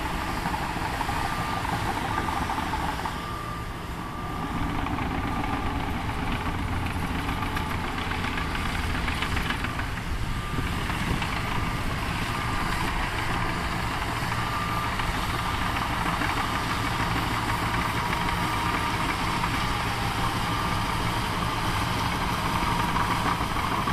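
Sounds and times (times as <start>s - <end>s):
bulldozer diesel engine under load: 0.0s - 23.9s.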